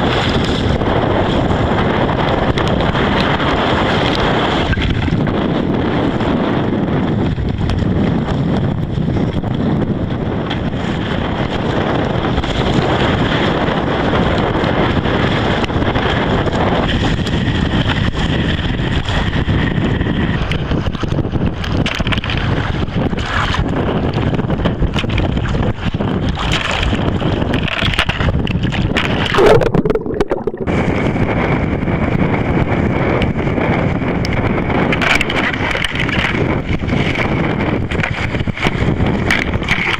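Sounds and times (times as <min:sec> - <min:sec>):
choppy water: 0:00.0 - 0:39.9
wind buffeting microphone: 0:00.0 - 0:39.9.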